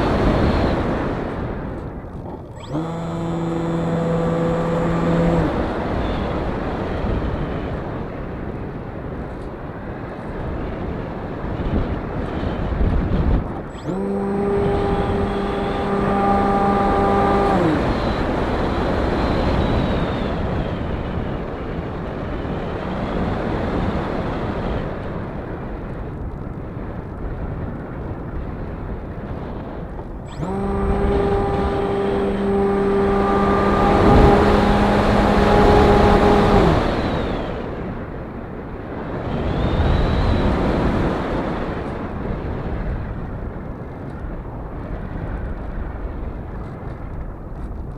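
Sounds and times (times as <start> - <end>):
model plane motor and propeller: 0.0 - 47.9
wind on microphone: 0.0 - 47.9.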